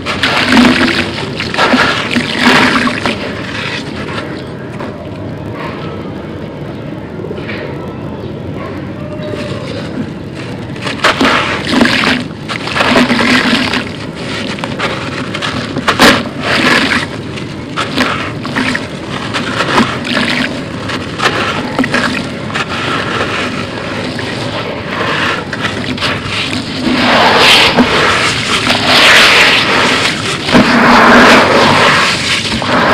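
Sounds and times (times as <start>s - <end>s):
crushed concrete pouring: 0.0s - 4.9s, 9.4s - 32.9s
crushed concrete crunching: 0.0s - 5.0s, 9.2s - 32.9s.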